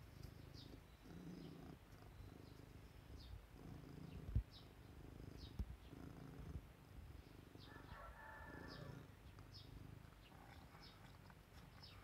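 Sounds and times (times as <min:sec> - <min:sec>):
cat purring: 0:00.0 - 0:07.7, 0:08.4 - 0:12.0
small birds chirping: 0:00.0 - 0:12.0.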